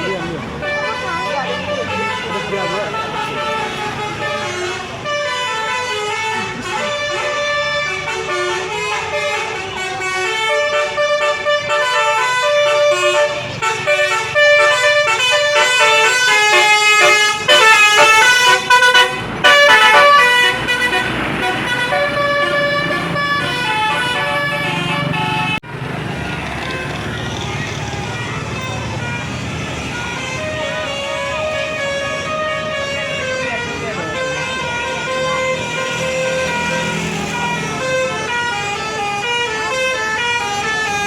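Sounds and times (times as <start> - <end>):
musical bus horn playing a tune: 0.0 - 25.6, 26.6 - 41.0.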